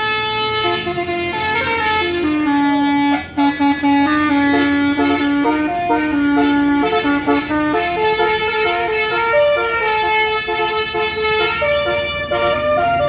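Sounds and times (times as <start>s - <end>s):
bus horn playing a tune: 0.0s - 13.0s.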